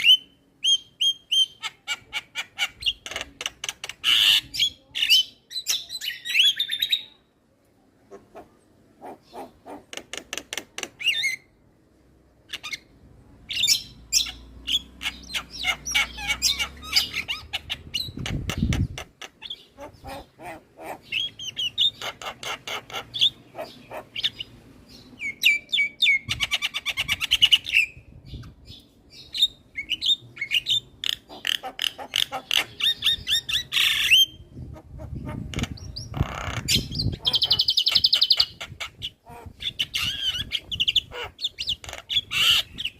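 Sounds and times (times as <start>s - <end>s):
bird chattering and whistling: 0.0s - 7.2s, 8.3s - 11.5s, 13.5s - 42.9s.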